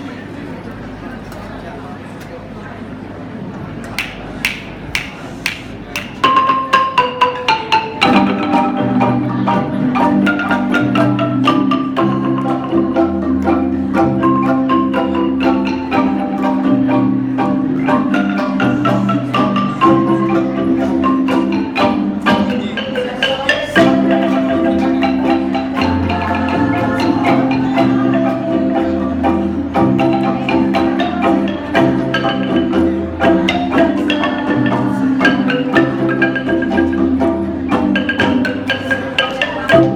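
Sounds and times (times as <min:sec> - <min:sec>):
wooden xylophone ensemble: 0:02.8 - 0:39.9.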